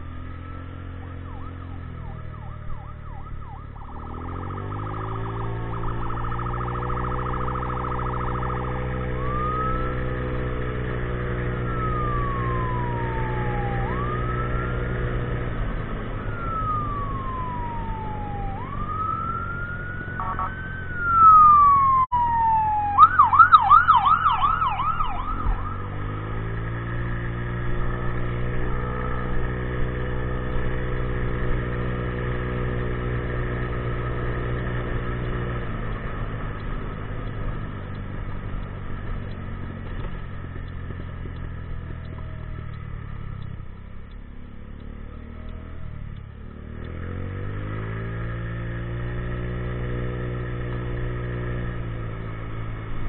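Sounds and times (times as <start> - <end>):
emergency vehicle siren: 0.0 - 53.0.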